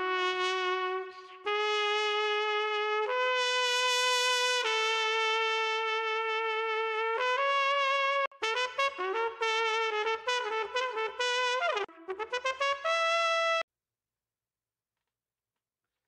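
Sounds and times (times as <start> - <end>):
trumpet playing long held notes: 0.0 - 13.7.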